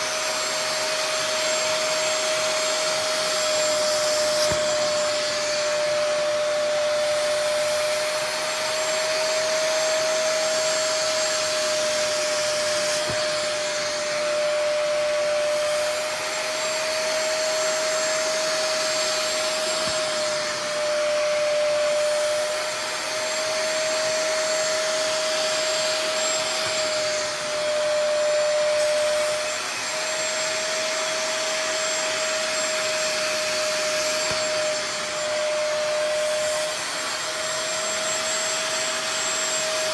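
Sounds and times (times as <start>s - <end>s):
carpet cleaner suction motor whine: 0.0s - 39.9s.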